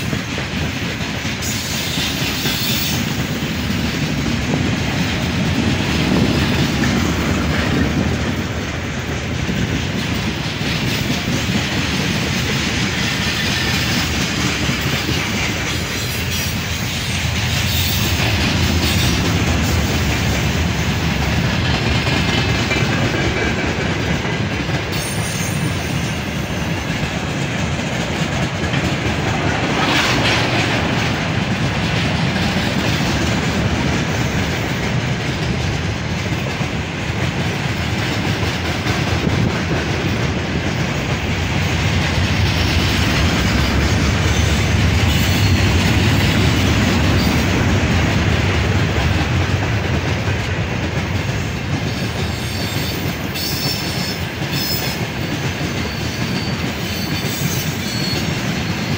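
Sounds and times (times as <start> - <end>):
freight train wheels clattering: 0.0 - 58.9.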